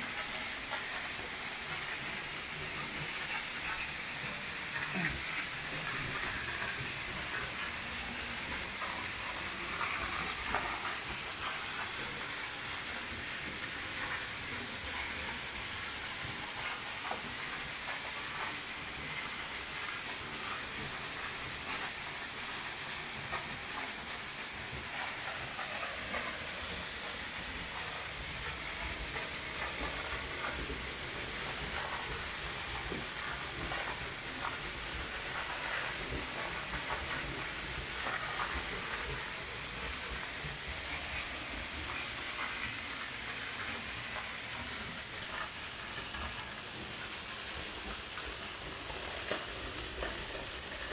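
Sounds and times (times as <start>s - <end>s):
waterfall rushing water: 0.0s - 50.9s.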